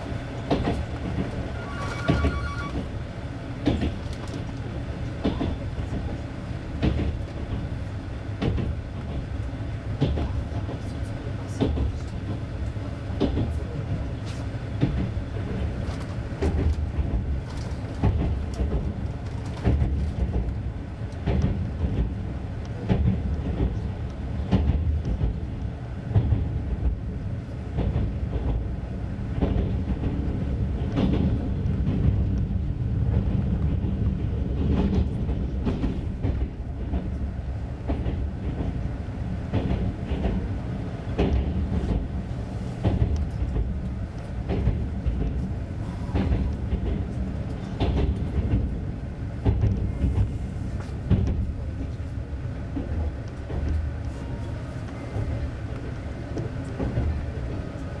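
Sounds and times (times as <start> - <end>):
train carriage rumble: 0.0 - 58.0.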